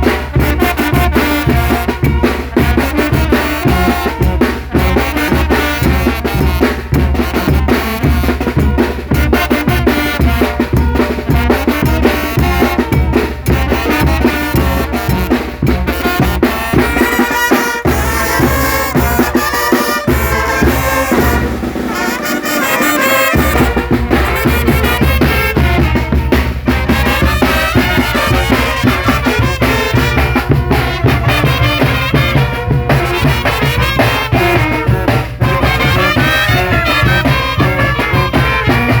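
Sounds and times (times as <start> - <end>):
brass band playing: 0.0 - 39.0.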